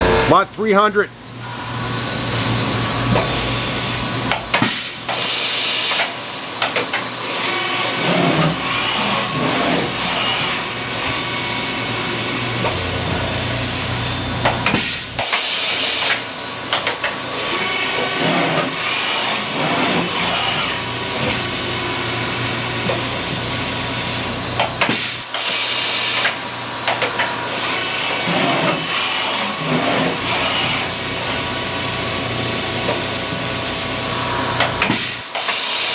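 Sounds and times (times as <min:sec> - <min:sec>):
machine hum and whine: 0:00.0 - 0:35.9.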